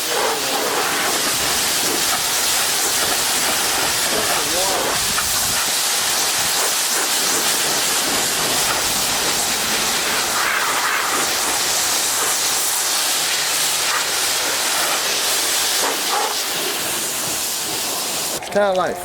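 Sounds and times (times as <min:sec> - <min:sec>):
pressure washer spraying: 0:00.0 - 0:18.5.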